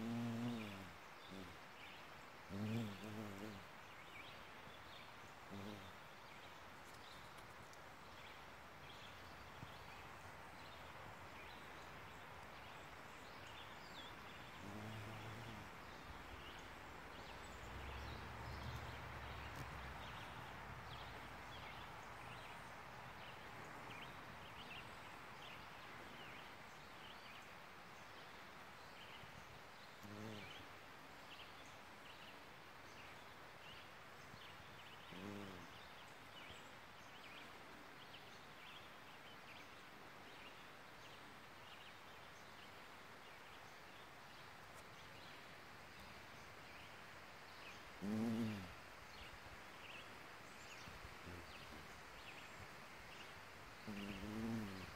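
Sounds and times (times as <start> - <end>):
steady hiss: 0.0 - 54.9.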